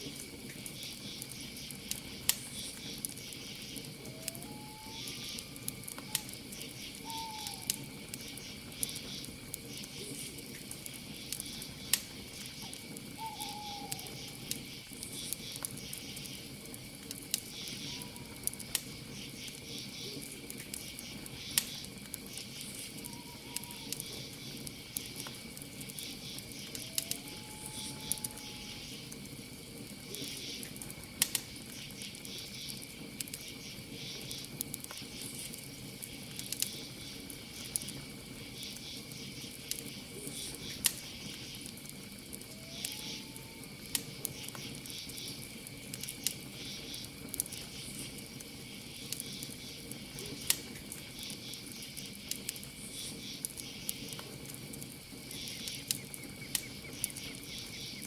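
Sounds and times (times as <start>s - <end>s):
campfire crackling and popping: 0.0s - 58.0s
crickets and night insects: 0.0s - 58.0s.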